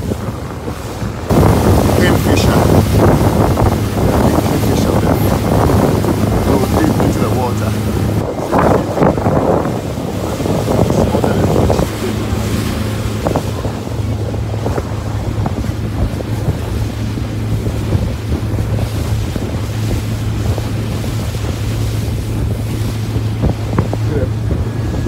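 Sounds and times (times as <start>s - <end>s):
boat engine humming: 0.0s - 25.0s
water rushing along hull: 0.0s - 25.0s
wind buffeting microphone: 0.0s - 25.0s.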